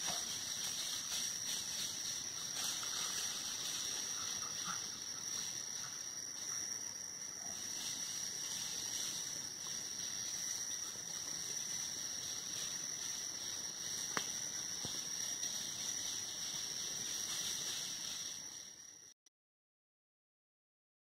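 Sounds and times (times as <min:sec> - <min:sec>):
high-pitched insect drone: 0:00.0 - 0:19.2.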